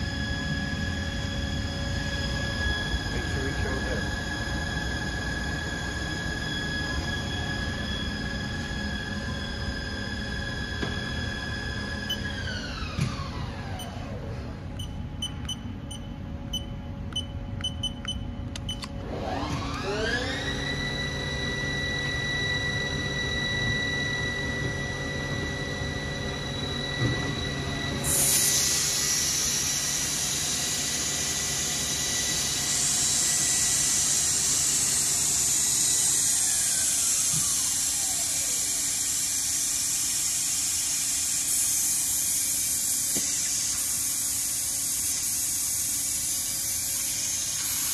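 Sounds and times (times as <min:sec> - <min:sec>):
lathe spindle whining: 0:00.0 - 0:14.7, 0:19.0 - 0:47.9.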